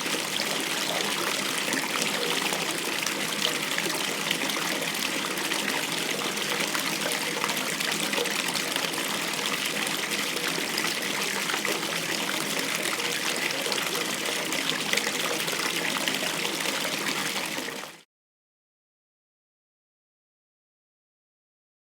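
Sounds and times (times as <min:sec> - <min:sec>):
water running into a bathtub: 0:00.0 - 0:18.0.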